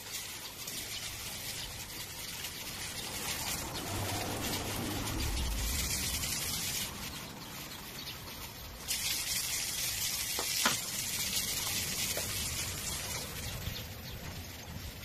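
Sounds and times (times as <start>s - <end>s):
hose water spraying: 0.0s - 15.0s.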